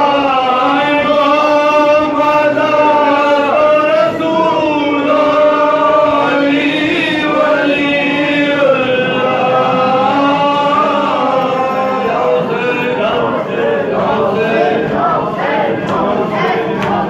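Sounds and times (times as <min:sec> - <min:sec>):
men chanting in held notes: 0:00.0 - 0:17.0.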